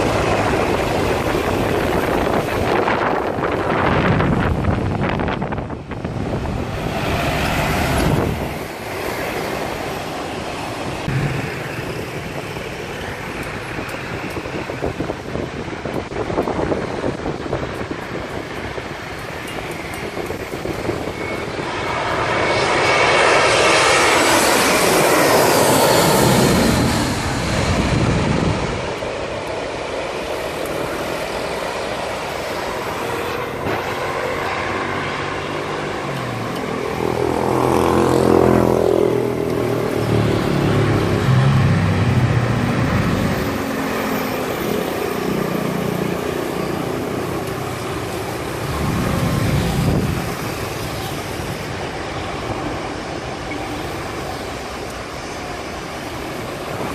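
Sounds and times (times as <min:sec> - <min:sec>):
jet airliner passing overhead: 0:00.0 - 0:56.9
road vehicle engine humming: 0:00.0 - 0:56.9.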